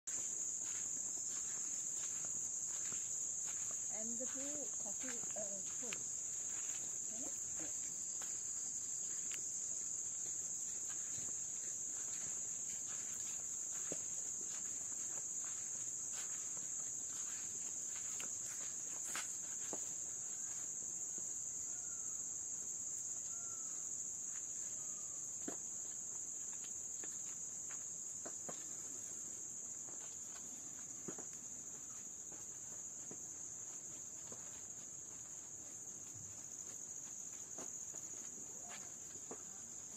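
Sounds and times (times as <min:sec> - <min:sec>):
insects trilling: 0:00.1 - 0:39.9.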